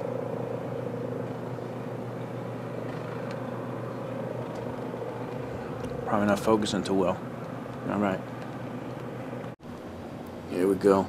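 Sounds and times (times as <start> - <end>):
engine running: 0.0 - 10.5.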